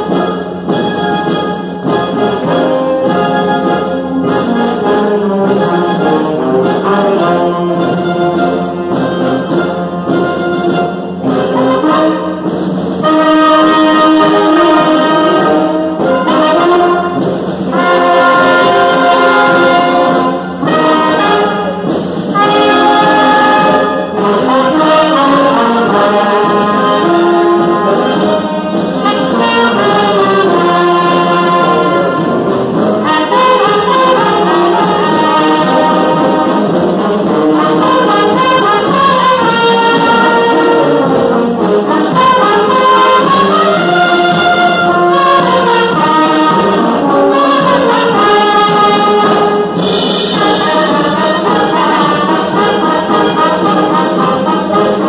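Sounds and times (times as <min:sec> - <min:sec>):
wind band playing chords: 0:00.0 - 0:55.0.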